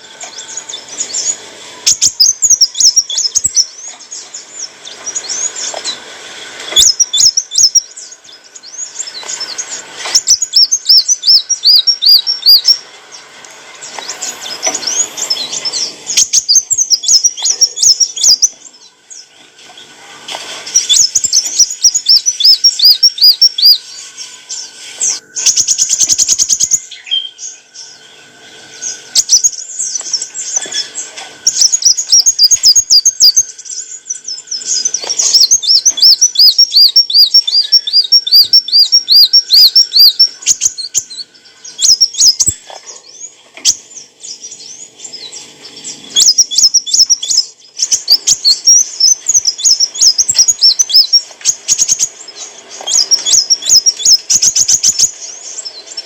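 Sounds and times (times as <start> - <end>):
sunbird singing high thin notes: 6.7 - 19.3, 20.6 - 56.0.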